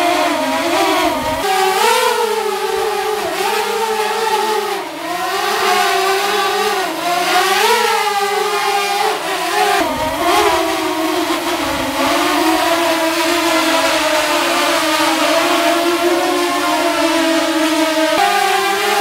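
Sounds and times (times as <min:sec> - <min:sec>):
drone propeller buzz: 0:00.0 - 0:19.0.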